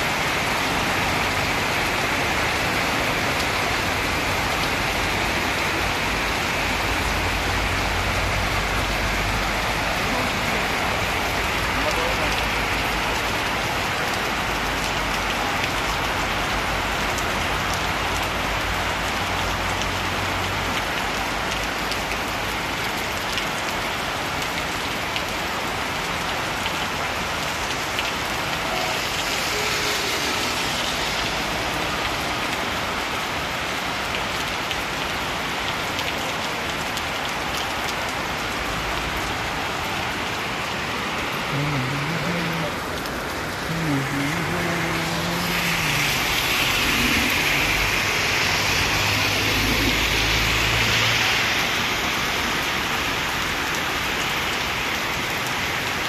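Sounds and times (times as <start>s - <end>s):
heavy rain on pavement and trees: 0.0s - 56.0s.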